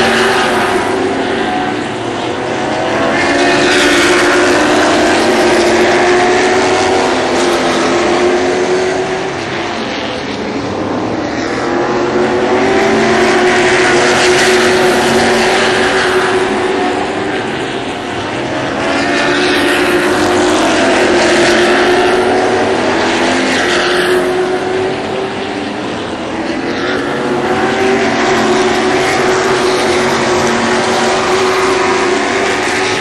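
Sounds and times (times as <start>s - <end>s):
racing car engines: 0.0s - 33.0s.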